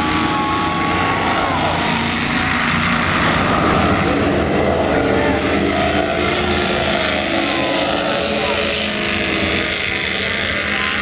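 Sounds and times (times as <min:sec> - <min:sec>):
powerboat engines accelerating past: 0:00.0 - 0:11.0.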